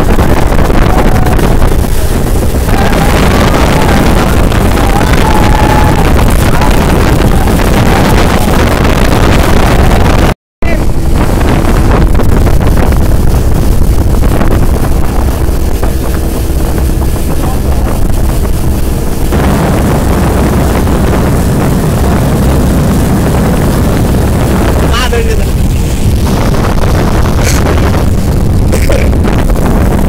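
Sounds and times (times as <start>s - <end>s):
motorboat engine drone: 0.0s - 30.0s
rushing water: 0.0s - 30.0s
wind buffeting microphone: 0.0s - 30.0s.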